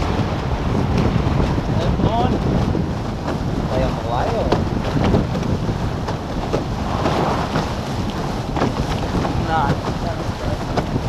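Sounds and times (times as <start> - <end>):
water rushing past hulls: 0.0 - 11.0
water slaps: 0.0 - 11.0
wind buffeting microphone: 0.0 - 11.0.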